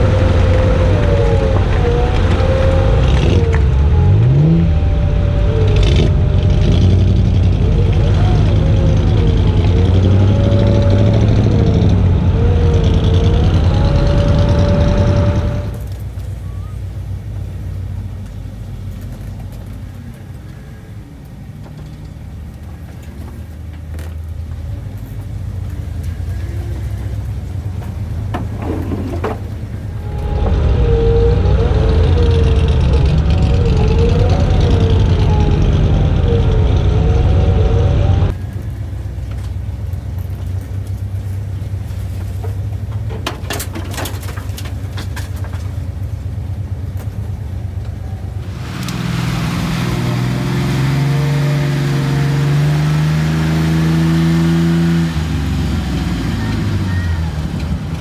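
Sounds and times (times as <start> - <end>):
muffled engine from inside cab: 0.0 - 58.0
off-road vehicle engine: 0.0 - 58.0.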